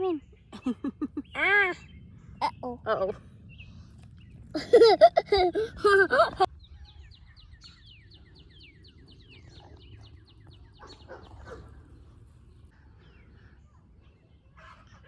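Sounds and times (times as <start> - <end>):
faint low outdoor rumble: 0.0 - 15.0.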